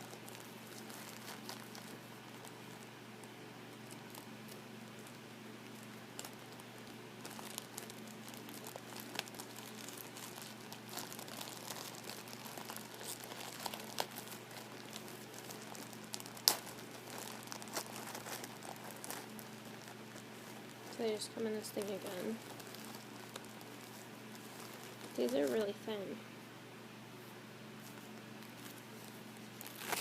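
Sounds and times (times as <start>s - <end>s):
packaging crinkling: 0.0s - 26.1s, 27.8s - 30.0s.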